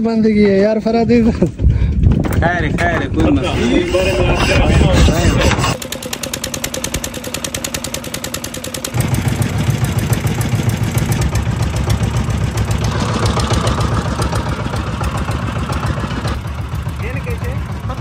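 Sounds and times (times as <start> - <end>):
boat engine running: 1.5 - 18.0.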